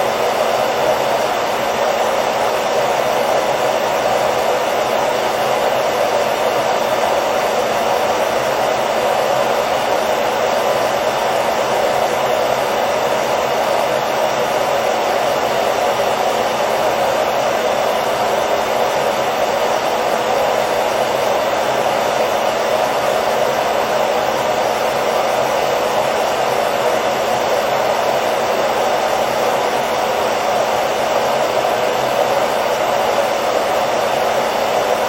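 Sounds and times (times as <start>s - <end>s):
hair dryer whirring: 0.0s - 35.0s.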